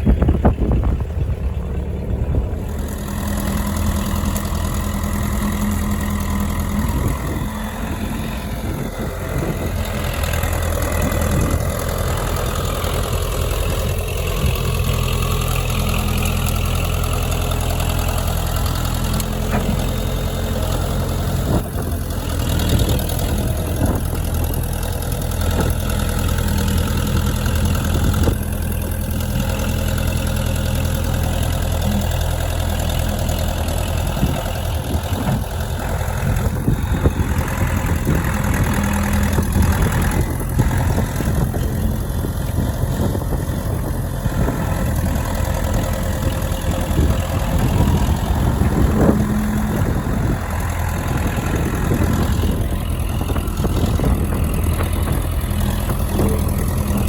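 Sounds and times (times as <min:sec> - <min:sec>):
heavy equipment engine running: 0:00.0 - 0:57.0.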